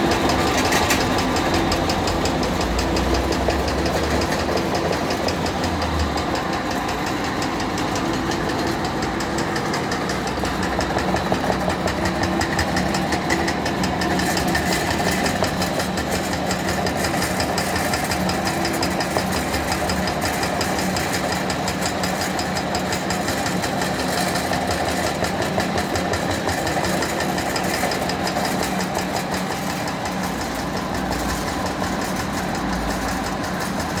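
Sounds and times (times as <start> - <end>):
food-cutting machine rattling: 0.0 - 34.0.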